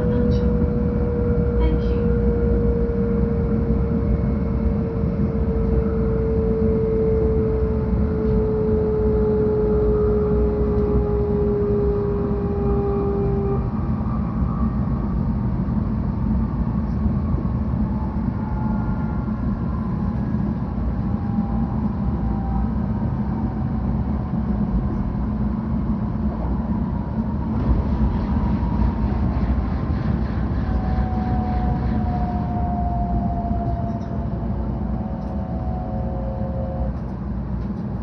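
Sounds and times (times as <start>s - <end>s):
faint whining tones: 0.0s - 38.0s
train cabin rumble: 0.0s - 38.0s.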